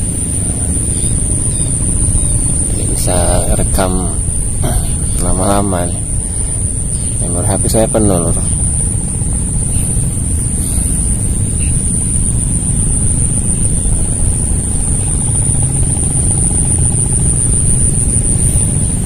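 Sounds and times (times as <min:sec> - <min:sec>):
high-pitched insect drone: 0:00.0 - 0:19.0
steady low rumble: 0:00.0 - 0:19.0.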